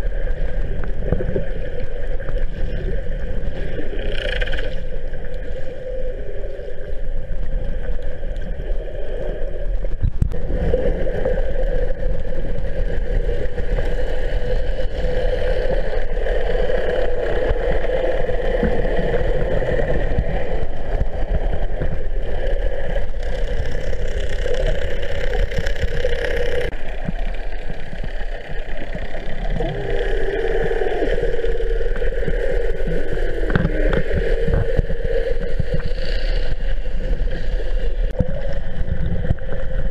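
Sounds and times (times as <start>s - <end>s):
underwater boat motor drone: 0.0s - 39.9s.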